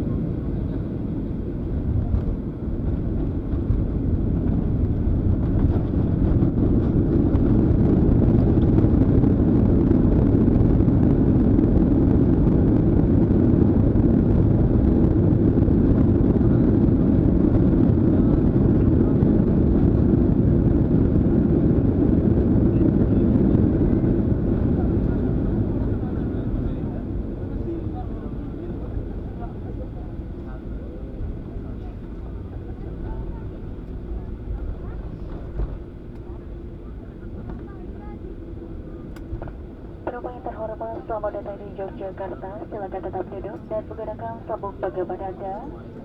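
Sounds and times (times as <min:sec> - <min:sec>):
jet engine rumble in cabin: 0:00.0 - 0:46.0.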